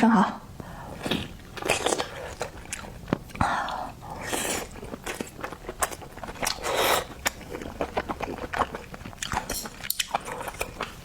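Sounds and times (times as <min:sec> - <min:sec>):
wet chewing: 0:01.0 - 0:11.0.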